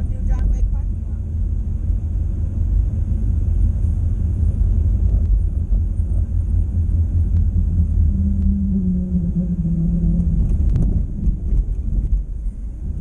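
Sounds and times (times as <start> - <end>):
car engine and tyres rumbling: 0.0 - 13.0
steady hum: 0.0 - 13.0.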